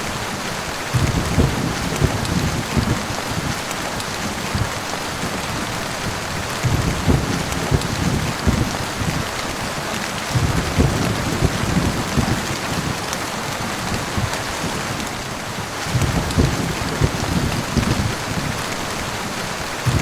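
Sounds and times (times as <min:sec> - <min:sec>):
heavy rain falling: 0:00.0 - 0:20.0
thunder rumbling: 0:00.1 - 0:20.0.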